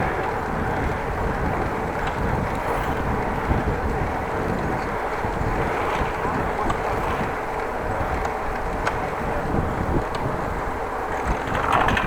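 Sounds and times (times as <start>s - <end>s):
bicycle road noise: 0.0s - 12.0s
wind on microphone: 0.0s - 12.0s.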